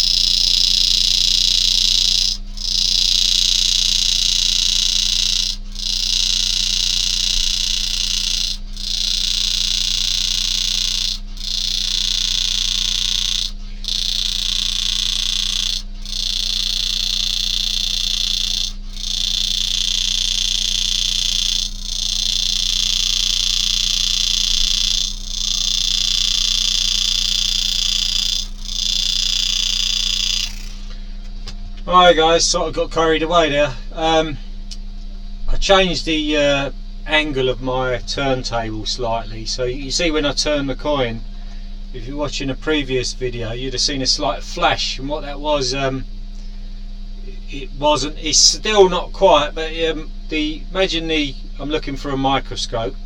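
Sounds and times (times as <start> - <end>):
engraving tool buzzing hiss: 0.0 - 34.8, 43.7 - 52.0.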